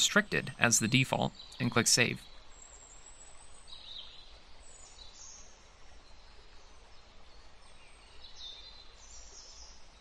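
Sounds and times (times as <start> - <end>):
steady hiss and low rumble: 0.0 - 10.0.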